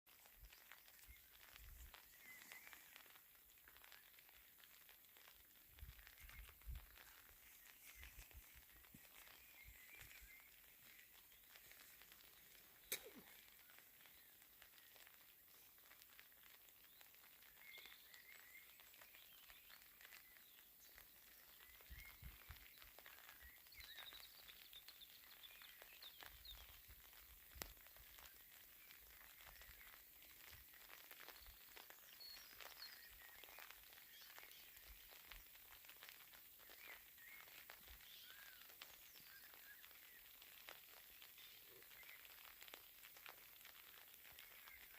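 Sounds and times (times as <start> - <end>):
light rain pattering: 0.1 - 44.9
small birds chirping: 0.1 - 44.9.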